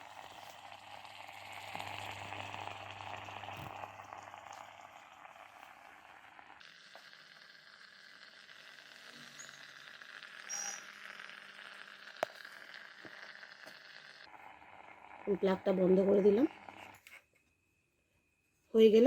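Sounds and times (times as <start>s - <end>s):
steam vaporizer bubbling hiss: 0.0s - 17.3s.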